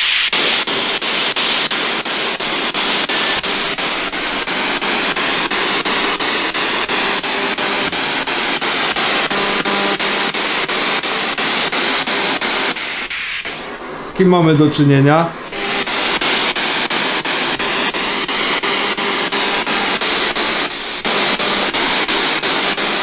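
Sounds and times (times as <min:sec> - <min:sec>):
radio static hiss chopped: 0:00.0 - 0:23.0.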